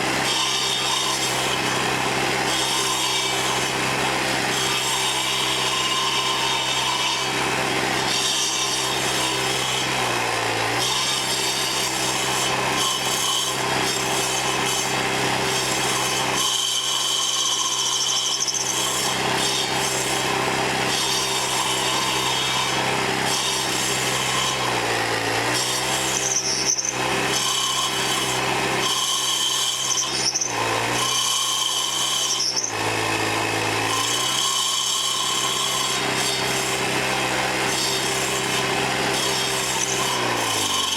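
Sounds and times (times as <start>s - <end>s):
edger blade grinding wood: 0.0s - 40.9s
small gas engine running hard: 0.0s - 40.9s.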